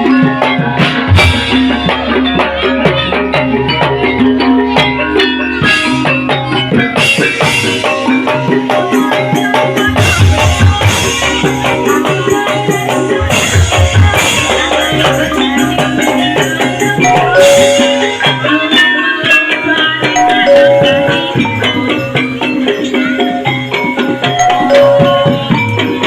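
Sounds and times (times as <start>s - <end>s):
gamelan music: 0.0s - 26.0s.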